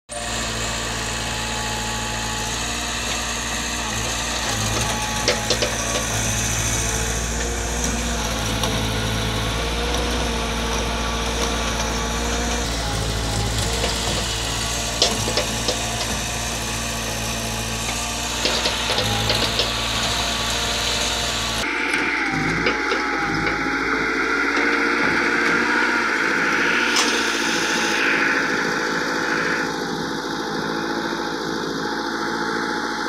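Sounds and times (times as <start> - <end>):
diesel engines running: 0.1 - 33.0.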